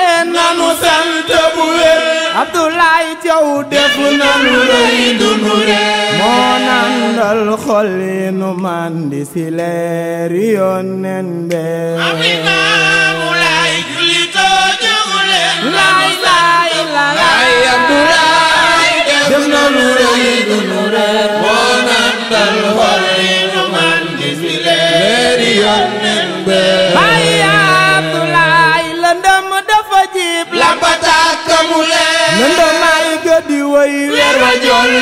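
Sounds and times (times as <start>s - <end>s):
person singing devotional chant: 0.0s - 35.0s.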